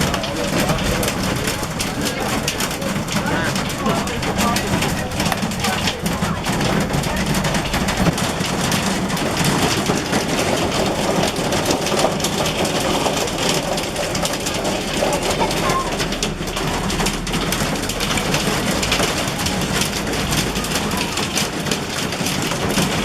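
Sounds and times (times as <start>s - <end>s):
hailstones clattering on hard surfaces: 0.0s - 23.0s
hiss of heavy precipitation: 0.0s - 23.0s.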